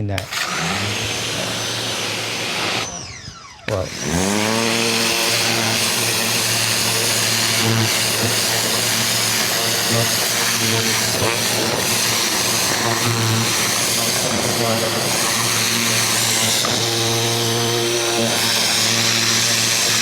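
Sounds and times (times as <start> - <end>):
pressure washer motor humming: 0.0 - 20.0.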